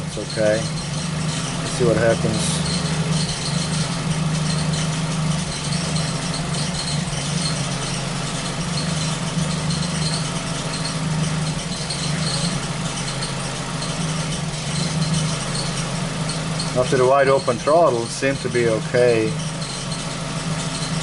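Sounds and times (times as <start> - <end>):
car engine humming: 0.0 - 21.0.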